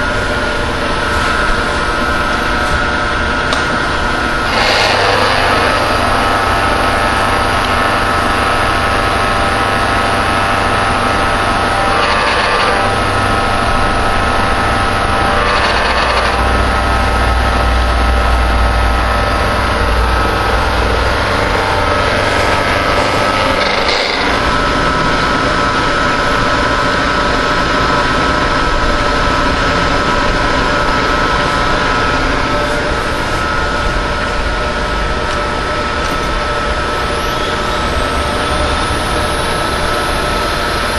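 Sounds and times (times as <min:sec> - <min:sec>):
milling machine motor hum: 0:00.0 - 0:40.9
spindle drive whine: 0:00.0 - 0:40.9.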